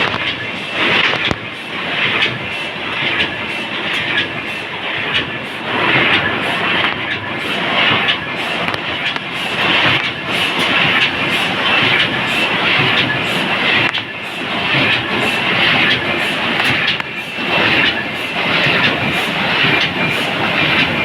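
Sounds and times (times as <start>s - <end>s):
machine mechanical clatter: 0.0s - 21.0s.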